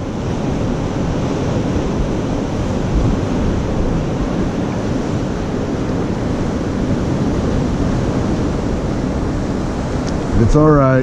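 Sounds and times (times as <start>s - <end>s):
churning river water: 0.0s - 11.0s
wind buffeting microphone: 0.0s - 11.0s.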